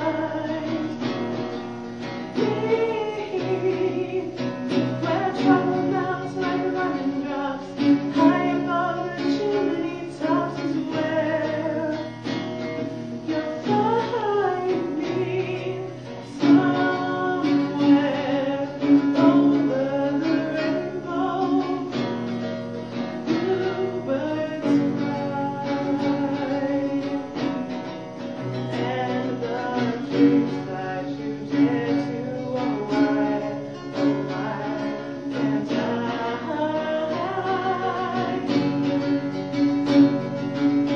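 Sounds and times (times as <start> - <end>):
acoustic guitar strumming: 0.0 - 40.9
person singing: 0.0 - 40.9.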